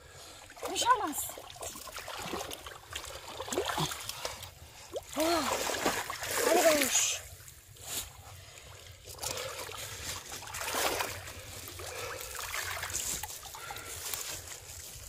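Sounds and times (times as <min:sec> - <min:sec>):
water splashing and dripping: 0:00.4 - 0:07.7, 0:08.4 - 0:14.2.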